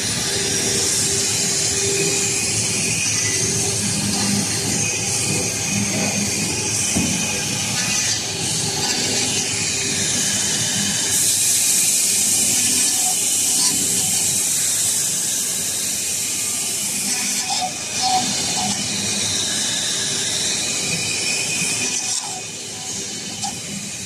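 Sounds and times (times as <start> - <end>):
machine running with high hiss: 0.0 - 24.0.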